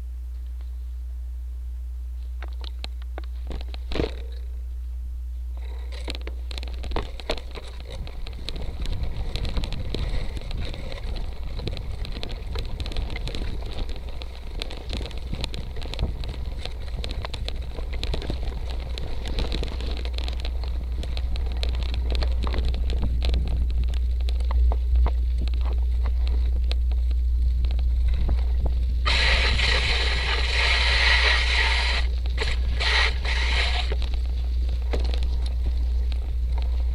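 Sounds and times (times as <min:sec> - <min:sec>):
bike clicking and rattling: 0:02.4 - 0:04.6, 0:05.6 - 0:36.9
bike tyres on dirt trail: 0:05.6 - 0:36.9
wind rumble on microphone: 0:05.6 - 0:36.9.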